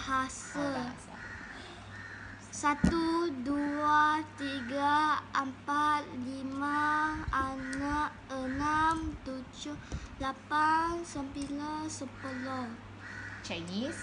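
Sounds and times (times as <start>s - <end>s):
boy counting in sing-song chant: 0.0s - 1.1s, 2.5s - 12.9s.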